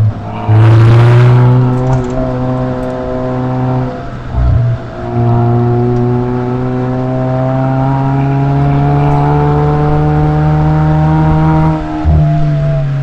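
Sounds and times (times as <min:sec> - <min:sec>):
short low thud: 0:00.0 - 0:12.5
car exhaust note: 0:00.0 - 0:13.0.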